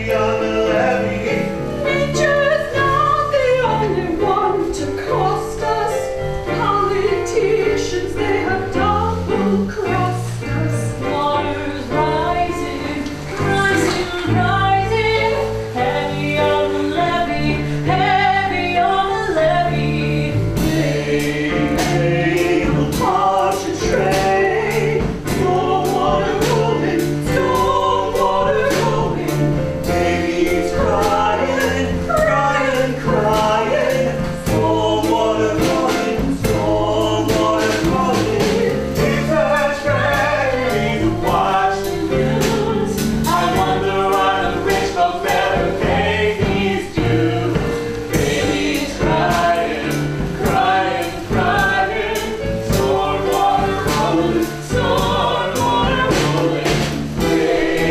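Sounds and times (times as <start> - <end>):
ensemble singing gospel song: 0.0 - 57.9
instrumental accompaniment with bass: 0.0 - 57.9.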